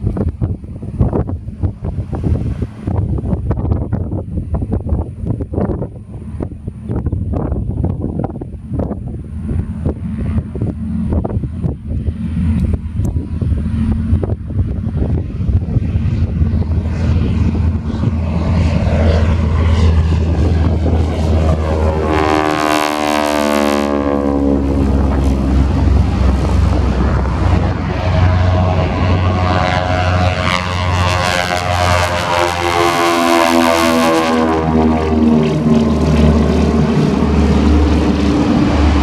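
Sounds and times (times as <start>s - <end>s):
propeller airplane engine drone: 0.0s - 39.0s.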